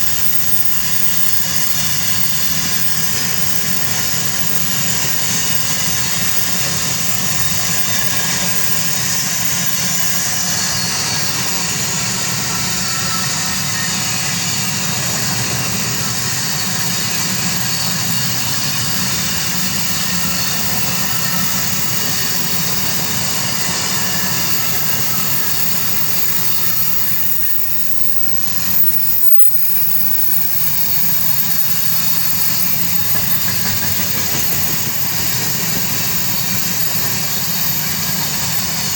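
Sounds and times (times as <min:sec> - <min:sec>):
freight train wheels rumbling: 0:00.0 - 0:38.9
hiss: 0:00.0 - 0:38.9.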